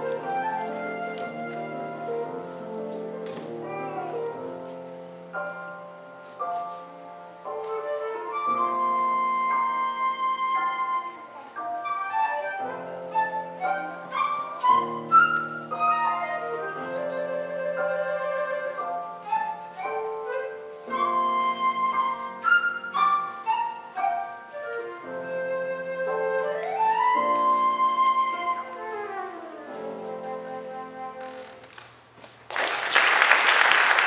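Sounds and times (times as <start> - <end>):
flute melody: 0.0 - 31.9.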